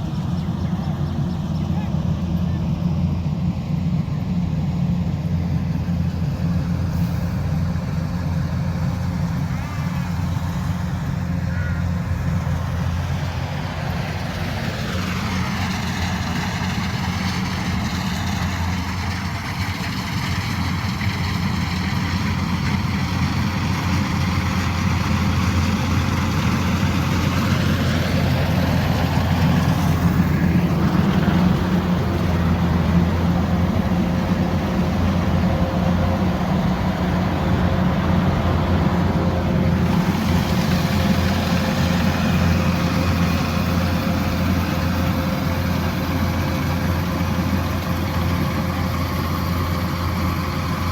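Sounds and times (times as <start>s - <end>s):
combine harvester diesel engine running: 0.0s - 50.9s.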